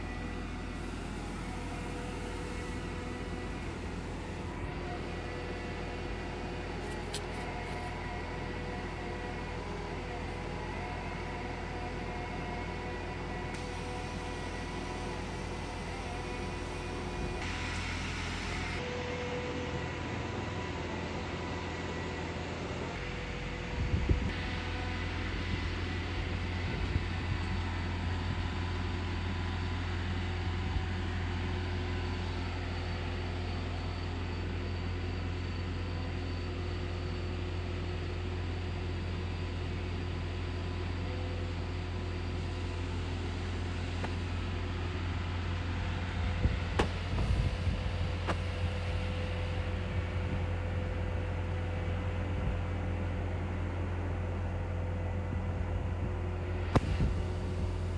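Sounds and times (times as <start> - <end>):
faint constant whine: 0.0 - 57.9.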